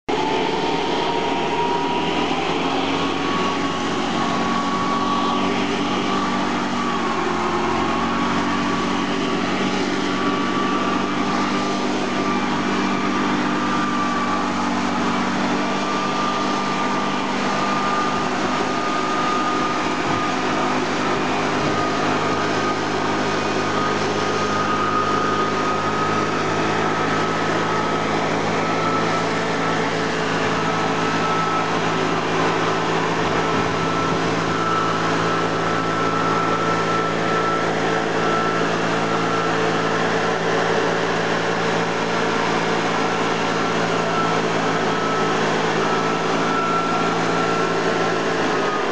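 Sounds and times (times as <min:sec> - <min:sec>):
leaf blower engine whining: 0:00.1 - 0:48.9.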